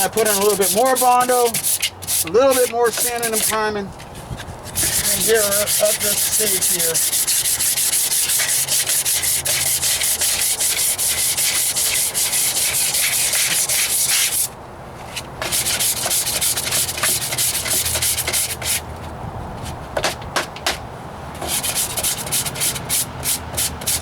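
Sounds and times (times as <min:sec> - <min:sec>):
sandpaper rubbing back and forth: 0:00.0 - 0:03.6, 0:04.7 - 0:14.5, 0:15.4 - 0:18.8, 0:21.4 - 0:24.0.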